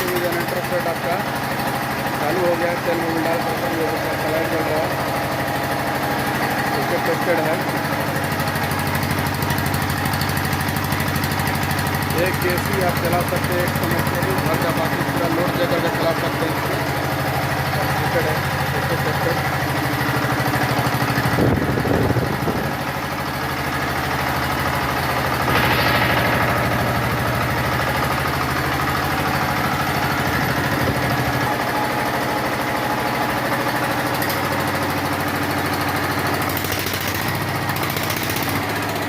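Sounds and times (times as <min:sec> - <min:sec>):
generator engine humming: 0:00.0 - 0:39.0.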